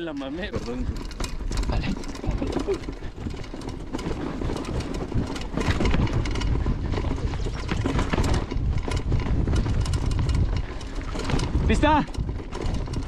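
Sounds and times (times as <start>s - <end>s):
bike rattling over bumps: 0.0s - 13.0s
tyre noise on dirt: 0.0s - 13.0s
wind rumbling on microphone: 0.0s - 13.0s.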